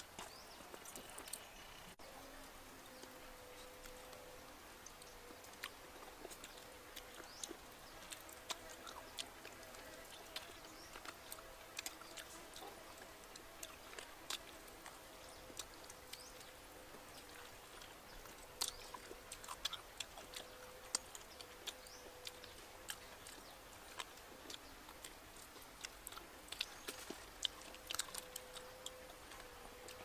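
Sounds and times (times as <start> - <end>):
faint steady hum: 0.0 - 30.0
lips and teeth smacking: 4.8 - 30.0.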